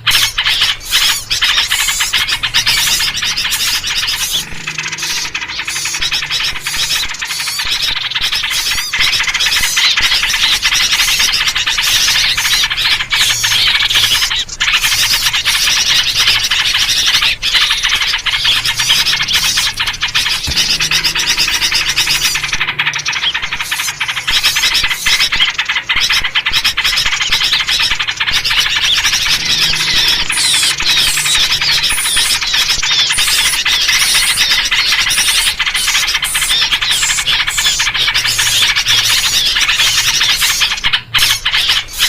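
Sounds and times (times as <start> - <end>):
bulbul calls: 0.0 - 42.0
small birds chirping: 0.0 - 42.0.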